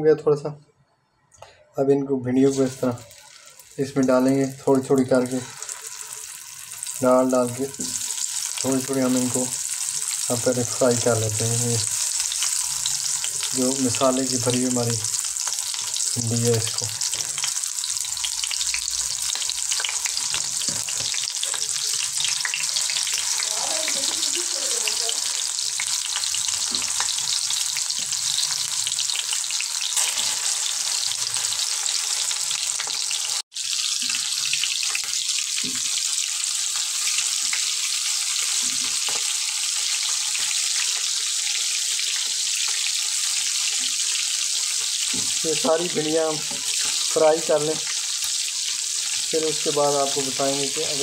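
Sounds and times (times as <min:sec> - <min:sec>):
okra sizzling in hot oil: 0:02.3 - 0:51.0.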